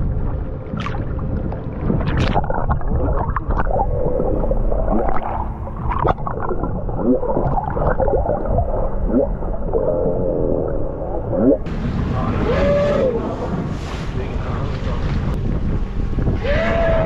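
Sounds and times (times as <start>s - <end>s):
low rumble: 0.0s - 17.0s
whale calling: 1.2s - 14.3s, 15.4s - 17.0s.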